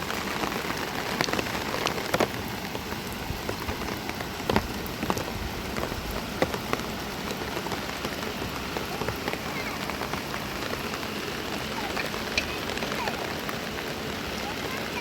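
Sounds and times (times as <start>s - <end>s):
close raindrops striking: 0.0s - 15.0s
steady rain falling: 0.0s - 15.0s.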